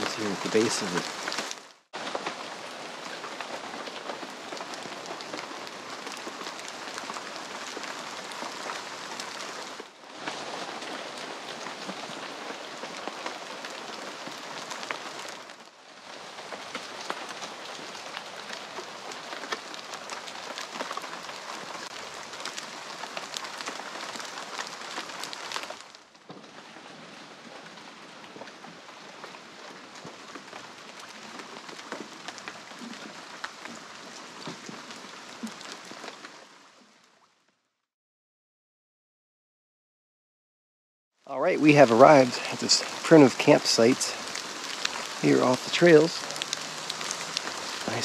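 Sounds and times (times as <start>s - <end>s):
rain pattering on leaves: 0.0s - 37.6s, 41.2s - 48.0s.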